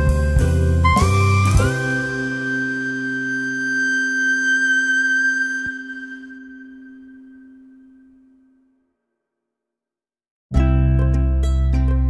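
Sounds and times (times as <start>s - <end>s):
instrumental background music: 0.0s - 8.5s, 10.5s - 12.0s.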